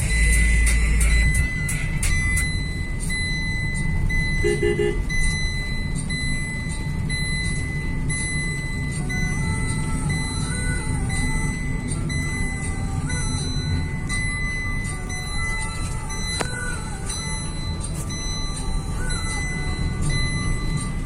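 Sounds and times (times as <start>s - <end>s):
car road and engine noise: 0.0s - 21.0s
short beeps: 0.0s - 21.0s.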